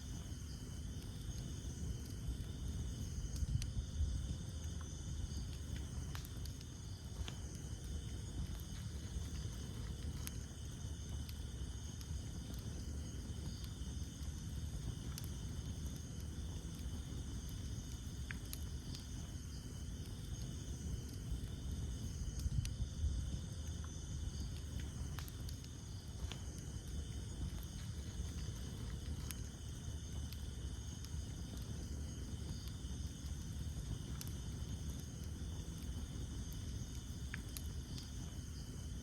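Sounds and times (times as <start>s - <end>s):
burning wood crackling: 0.0s - 39.0s
campfire flames rushing: 0.0s - 39.0s
night insects chirping: 0.0s - 39.0s.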